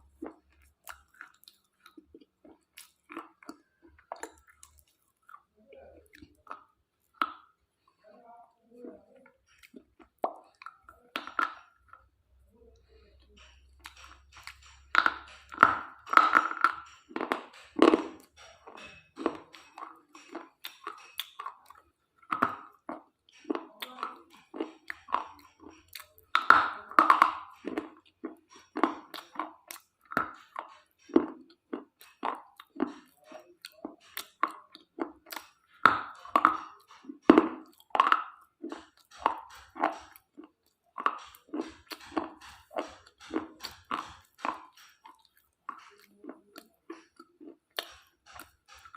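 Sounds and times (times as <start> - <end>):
chewing and crunching slate: 0.0 - 8.1, 8.8 - 48.9.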